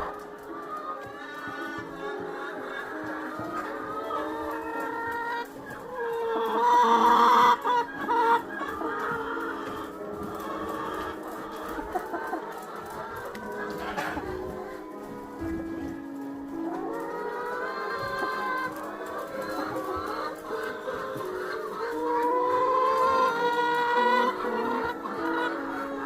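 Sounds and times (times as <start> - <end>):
background music: 0.0 - 26.0
chickens clucking: 0.0 - 26.0.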